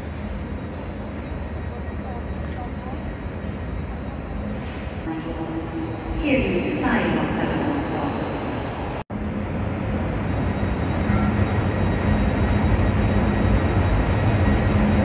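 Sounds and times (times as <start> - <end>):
electric trains rumbling and humming: 0.0 - 15.0.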